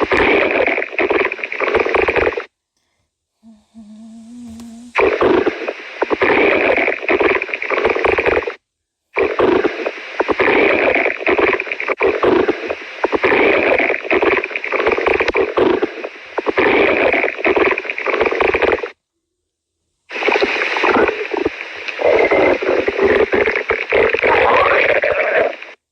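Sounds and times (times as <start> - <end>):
stomach growling and gurgling: 0.0 - 2.5, 3.4 - 8.6, 9.2 - 19.0, 20.2 - 25.8.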